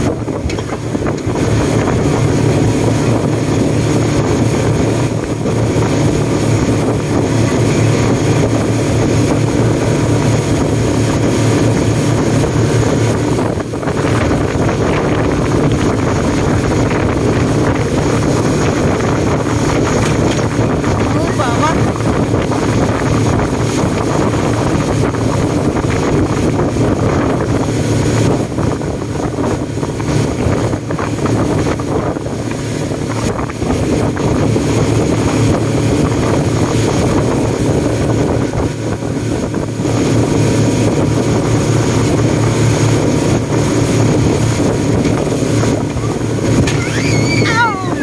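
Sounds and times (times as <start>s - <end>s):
speedboat engine droning: 0.0s - 48.0s
water rushing past hull: 0.0s - 48.0s.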